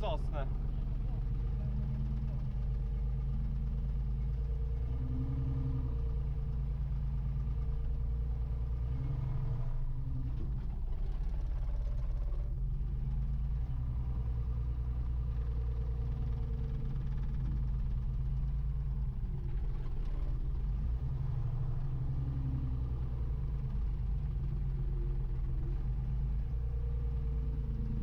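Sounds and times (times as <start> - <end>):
wheel loader engine running: 0.0 - 28.0.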